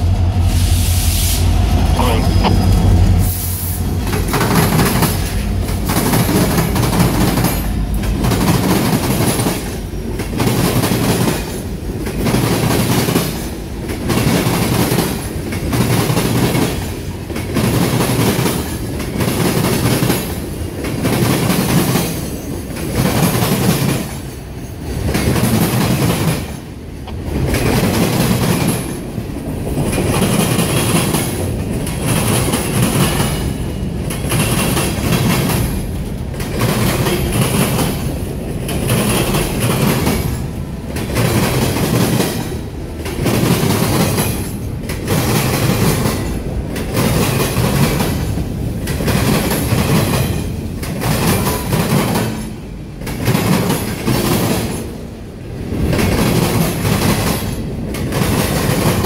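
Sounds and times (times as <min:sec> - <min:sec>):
train wheels clattering over crossing: 0:00.0 - 0:59.0.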